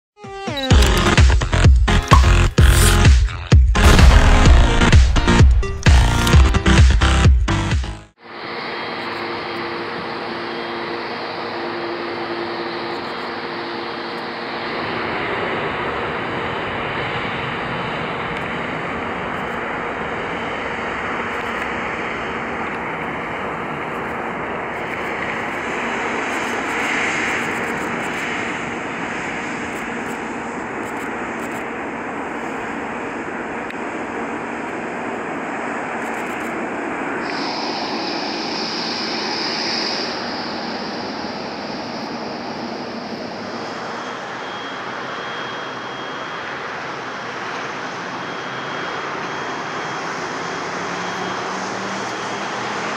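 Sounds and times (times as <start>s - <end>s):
jet engine roar: 0.7s - 52.9s.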